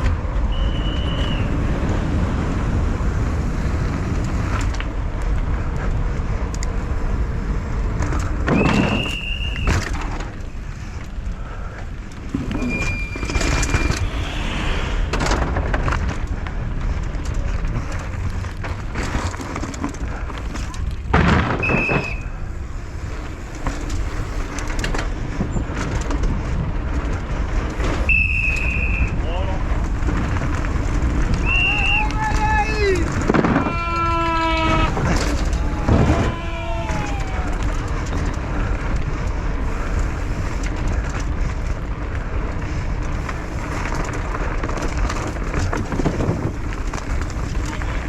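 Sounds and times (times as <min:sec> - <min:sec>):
bike clicks and rattles: 0:00.0 - 0:14.3, 0:15.0 - 0:48.0
tyres rumbling on pavement: 0:00.0 - 0:48.0.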